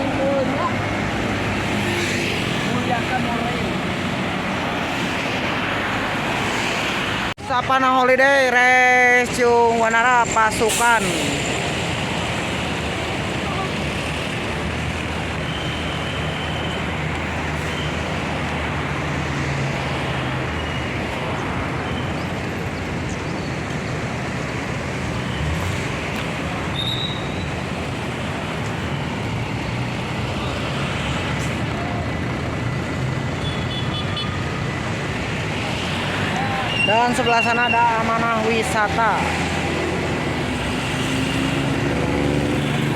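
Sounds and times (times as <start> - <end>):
vehicles passing on road: 0.0 - 42.9.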